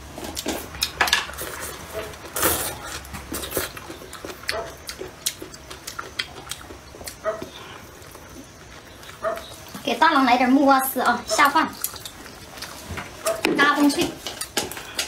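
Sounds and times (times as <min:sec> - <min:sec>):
chewing and mouth sounds: 0:00.2 - 0:10.1, 0:10.9 - 0:15.0.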